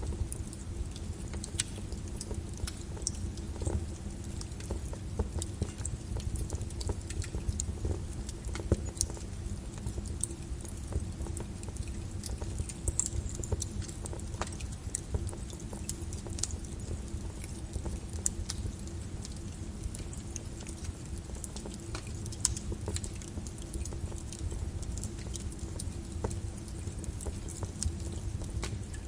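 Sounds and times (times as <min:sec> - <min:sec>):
lava crackling: 0:00.0 - 0:29.0.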